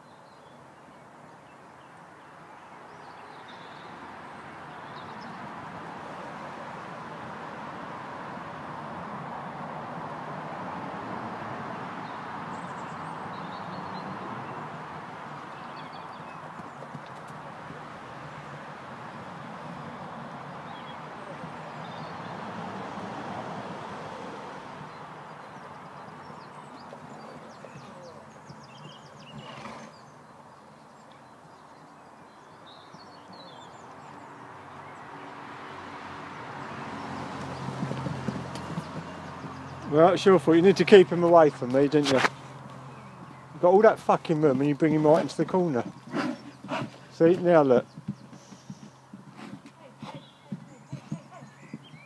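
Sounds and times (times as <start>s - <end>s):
outdoor background hiss: 0.0s - 52.0s
horse hooves on sand: 4.3s - 31.4s, 36.3s - 52.0s.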